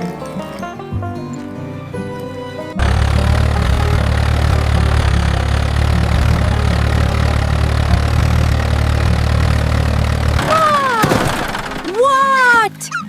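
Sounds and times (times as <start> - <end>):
tractor engine drone: 0.0 - 12.7.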